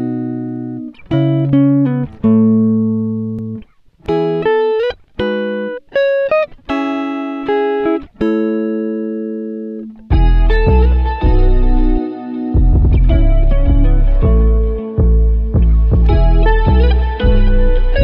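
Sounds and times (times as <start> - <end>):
plucked string melody: 0.0 - 18.0.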